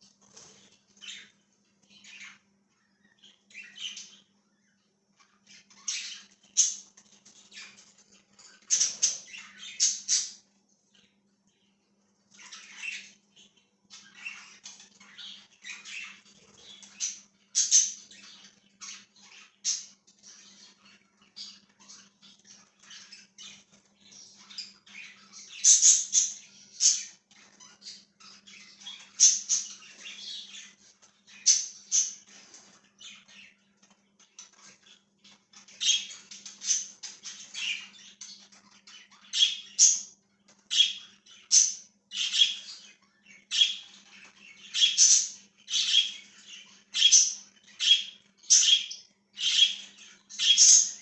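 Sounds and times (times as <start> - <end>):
budgerigars chattering and chirping: 0.1 - 51.0.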